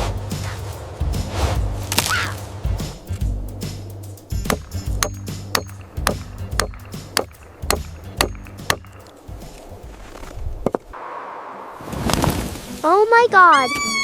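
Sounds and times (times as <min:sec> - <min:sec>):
steady hiss: 0:00.0 - 0:13.2.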